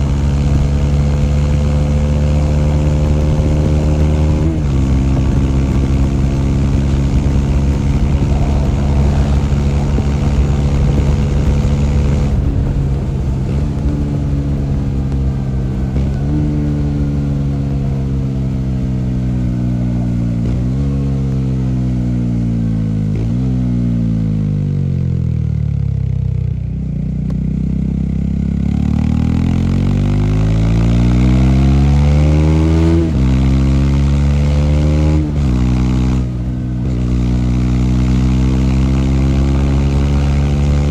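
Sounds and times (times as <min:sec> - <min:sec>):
motorcycle engine shifting gears: 0:00.0 - 0:25.0, 0:26.8 - 0:40.9.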